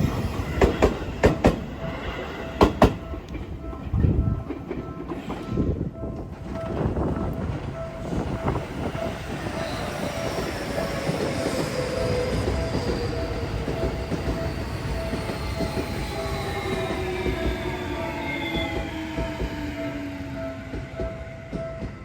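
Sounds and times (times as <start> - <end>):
level-crossing bell ringing: 0.3 - 22.0
train wheels clacking on rail joints: 0.3 - 22.0.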